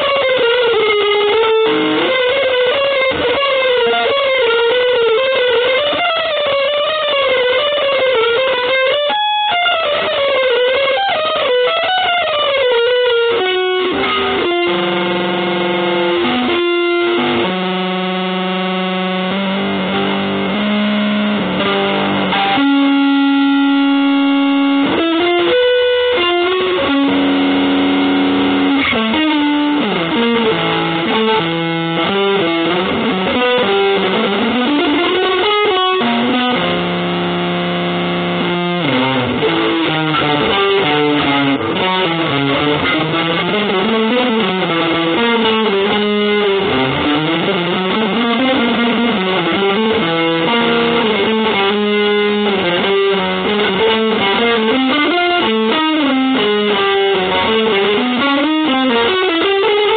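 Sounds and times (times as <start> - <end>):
distorted electric guitar runs: 0.0 - 59.9.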